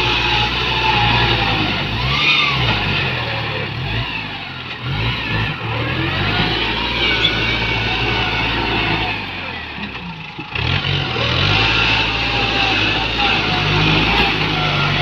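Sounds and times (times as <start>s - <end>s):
tractor engine under load: 0.0s - 15.0s.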